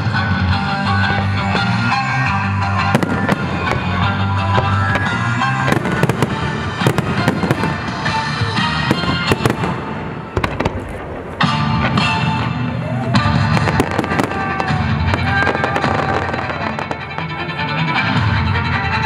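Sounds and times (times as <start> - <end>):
fireworks display music: 0.0 - 19.0.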